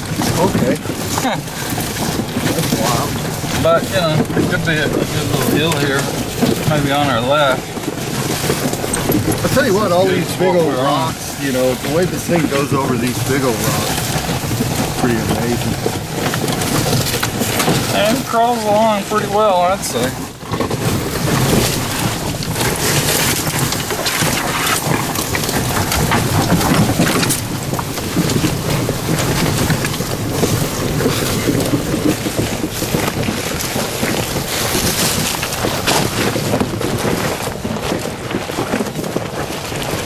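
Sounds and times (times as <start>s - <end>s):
tyres crunching over rocks: 0.0s - 40.0s
vehicle body knocking and rattling: 0.0s - 40.0s.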